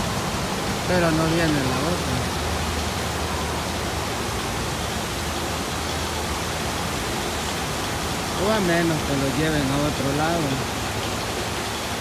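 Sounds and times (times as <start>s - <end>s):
water rushing down a chute: 0.0s - 12.0s.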